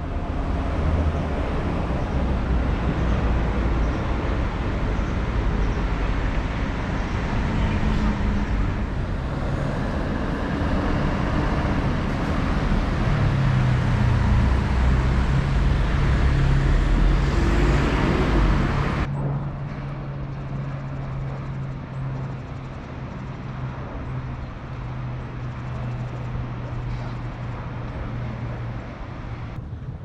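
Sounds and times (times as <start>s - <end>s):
low engine hum: 0.0s - 30.0s
vehicle traffic going by: 0.0s - 30.0s.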